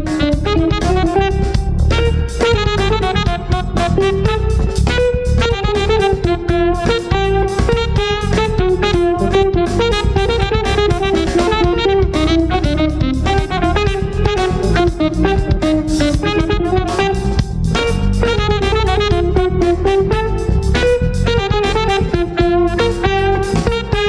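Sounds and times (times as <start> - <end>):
drum kit: 0.0 - 24.0
electric bass: 0.0 - 24.0
electric guitar melody: 0.0 - 24.0.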